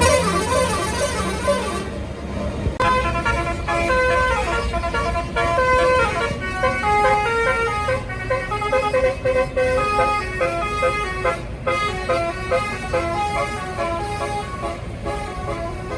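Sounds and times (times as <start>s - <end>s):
bus horn playing a melody: 0.0s - 15.9s
engine rumble: 0.0s - 15.9s.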